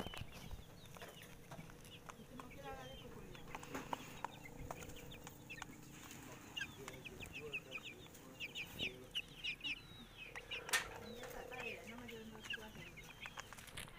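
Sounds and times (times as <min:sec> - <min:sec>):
chickens calling: 0:00.0 - 0:13.9.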